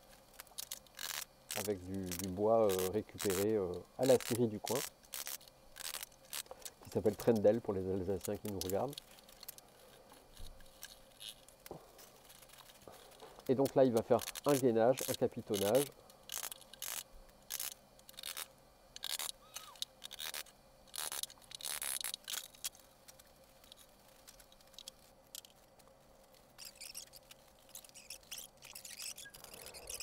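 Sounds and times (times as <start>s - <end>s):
faint steady hum: 0.0s - 30.0s
hand tools clicking and scraping: 0.4s - 30.0s.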